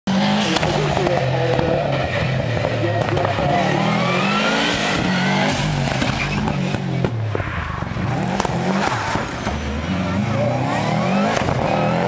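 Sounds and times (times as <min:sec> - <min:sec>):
rally car engine revving hard: 0:00.1 - 0:07.3, 0:07.9 - 0:12.0.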